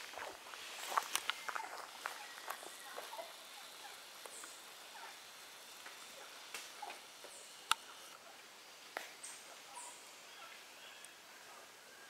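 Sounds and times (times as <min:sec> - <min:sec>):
insects hissing: 0:00.0 - 0:12.0.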